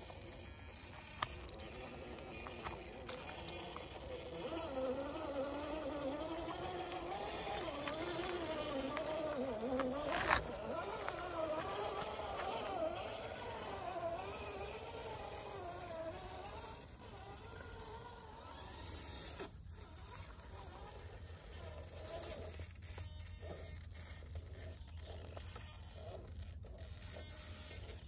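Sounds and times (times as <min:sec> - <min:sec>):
toy car motor whining: 0:00.0 - 0:28.0.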